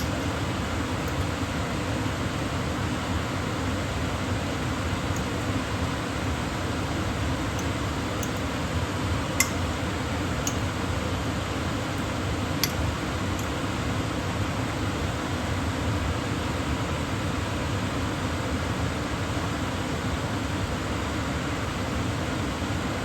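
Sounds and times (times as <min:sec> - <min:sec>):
microwave oven humming: 0:00.0 - 0:23.0.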